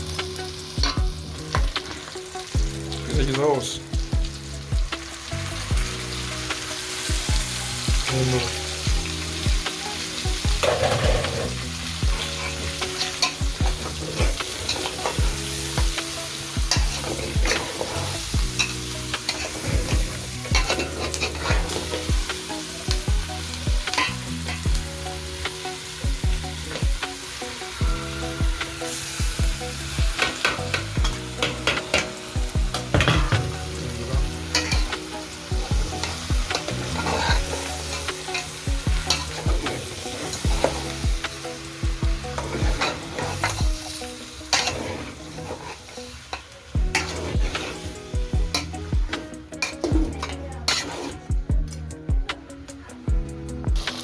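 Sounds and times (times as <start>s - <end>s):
food sizzling in a pot: 0.0s - 54.0s.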